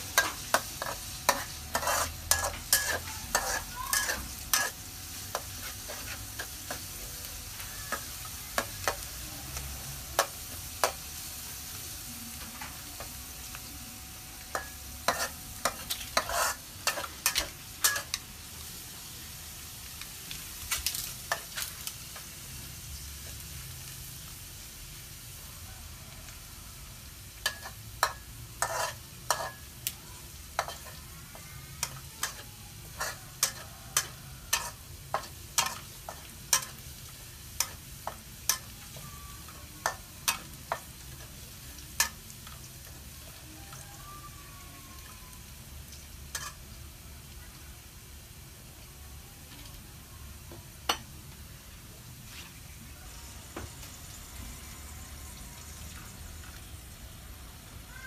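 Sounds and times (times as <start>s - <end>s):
steady sizzle: 0.0s - 58.0s.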